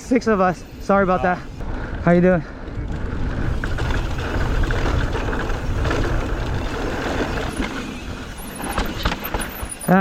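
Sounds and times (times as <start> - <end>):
tyres rushing on dirt: 0.3 - 10.0
bike clicks and rattles: 0.5 - 10.0
wind buffeting microphone: 0.6 - 9.2.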